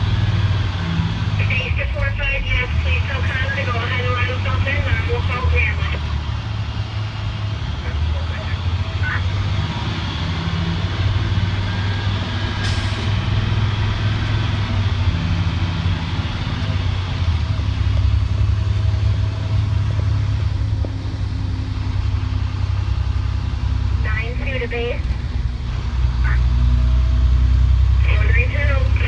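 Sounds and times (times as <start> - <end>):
bus engine low hum: 0.0 - 29.0
buzzing inside bus: 0.0 - 29.0.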